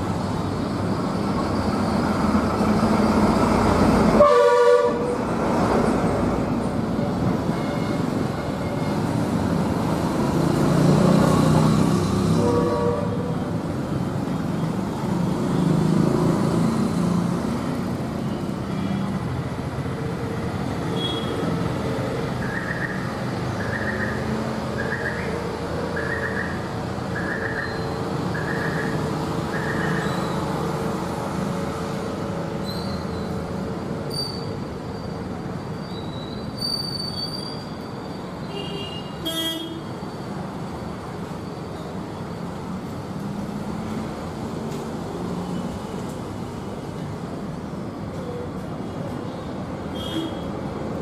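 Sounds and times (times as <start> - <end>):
road traffic: 0.0 - 51.0.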